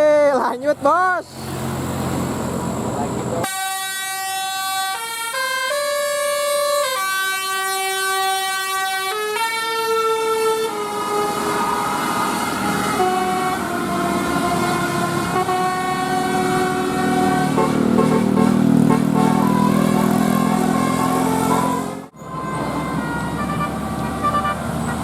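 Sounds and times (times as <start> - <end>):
engine and road noise: 0.0 - 25.0
multi-tone bus horn tune: 3.4 - 25.0.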